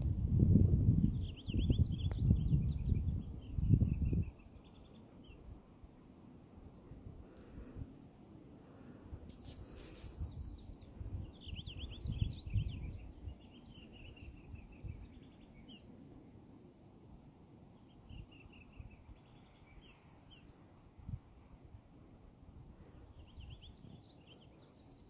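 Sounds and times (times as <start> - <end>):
low rumble of outdoor noise: 0.0 - 25.0.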